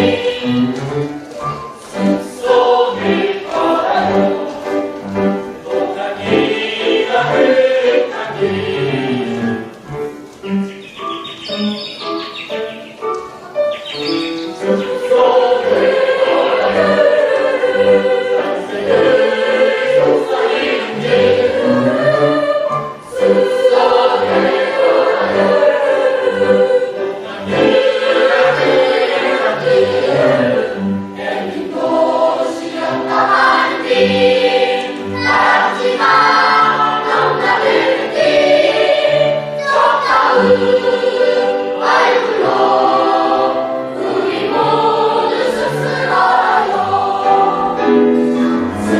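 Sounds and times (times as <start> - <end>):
choir singing: 0.0 - 48.9
musical accompaniment: 0.0 - 48.9.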